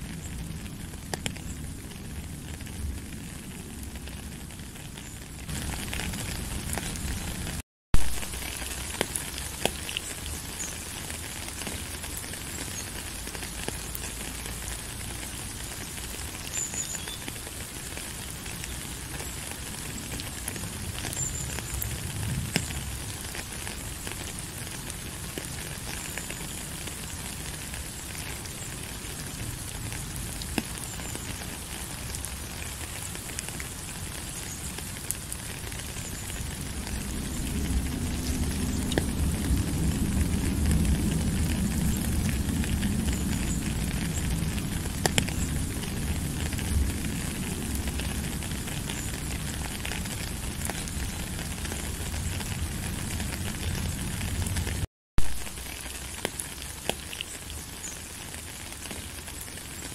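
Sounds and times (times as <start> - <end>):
rain hiss: 0.0 - 59.9
raindrops ticking: 0.0 - 59.9.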